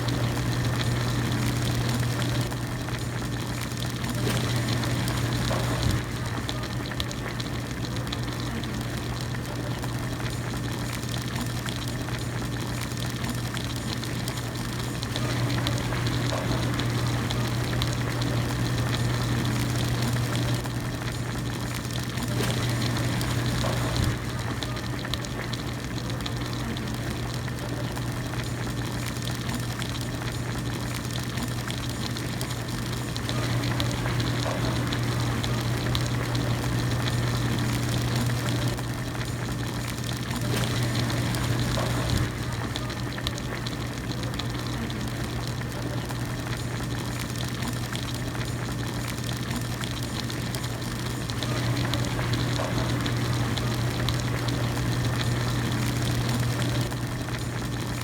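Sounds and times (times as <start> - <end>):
broth boiling and bubbling: 0.0 - 58.0.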